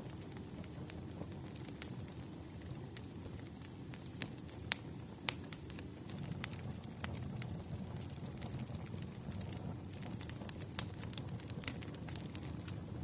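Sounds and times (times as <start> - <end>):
firewood crackling pops: 0.0 - 12.8
low rumble of fire: 0.0 - 13.0.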